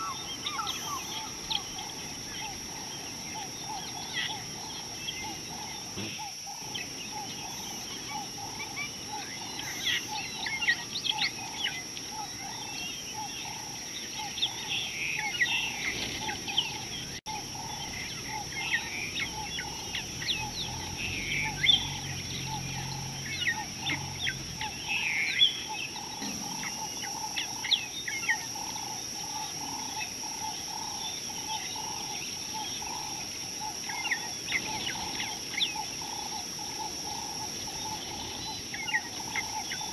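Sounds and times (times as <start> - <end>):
birds chirping and calling: 0.0 - 39.9
constant high whine: 0.0 - 39.9.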